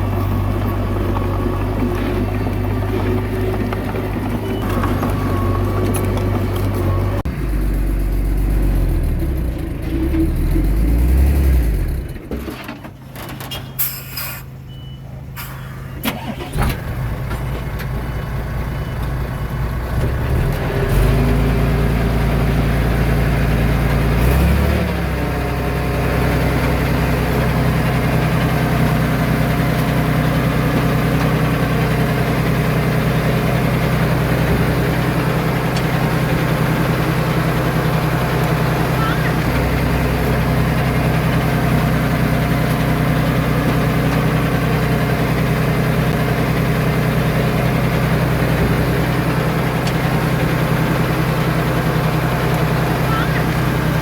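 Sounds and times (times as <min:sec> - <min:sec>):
diesel engine running: 0:00.0 - 0:13.4, 0:14.5 - 0:54.0.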